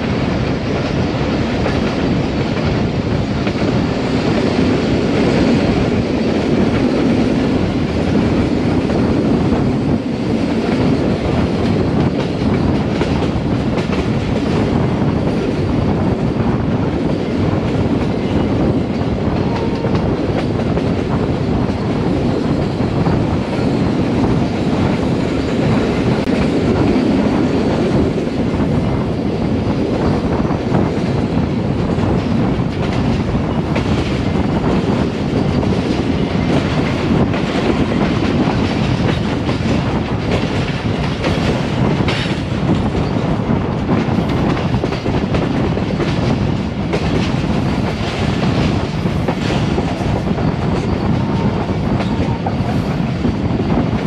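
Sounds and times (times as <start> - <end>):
clickety-clack over rail joints: 0.0 - 54.0
rumble of wheels on rails: 0.0 - 54.0.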